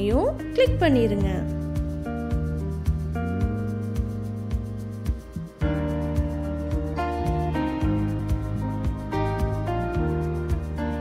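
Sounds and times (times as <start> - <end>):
background music with held chords: 0.0 - 11.0
steady beat: 0.0 - 11.0.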